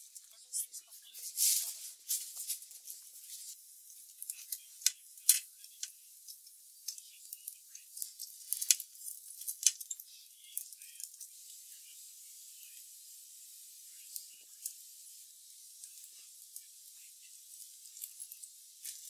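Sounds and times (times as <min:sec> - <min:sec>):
cutlets sizzling on griddle: 0:03.2 - 0:19.0.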